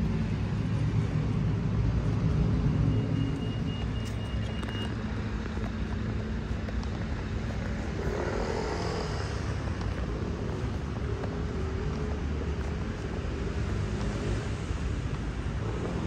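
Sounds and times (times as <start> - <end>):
outdoor noise: 0.0 - 16.0.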